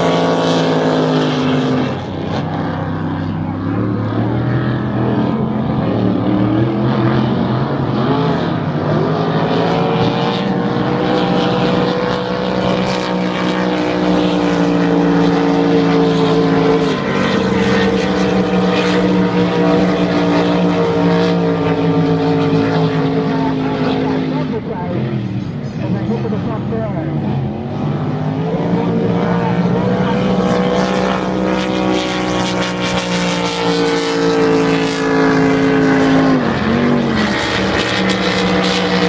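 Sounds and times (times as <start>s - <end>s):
race boat engines droning: 0.0s - 39.0s.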